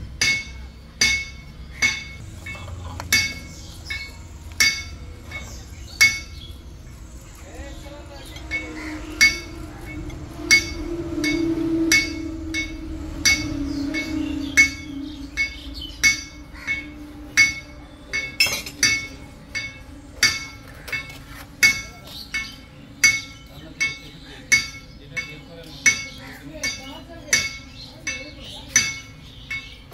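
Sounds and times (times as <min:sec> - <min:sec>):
hammer striking steel: 0:00.0 - 0:06.5, 0:08.2 - 0:29.9.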